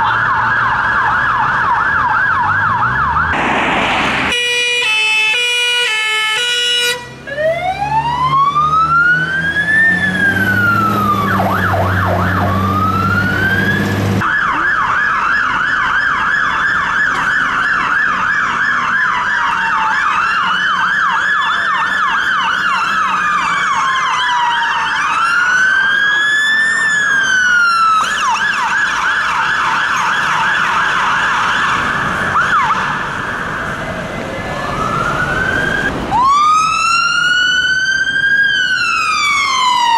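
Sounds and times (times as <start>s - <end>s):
fire engine sirens: 0.0s - 39.9s.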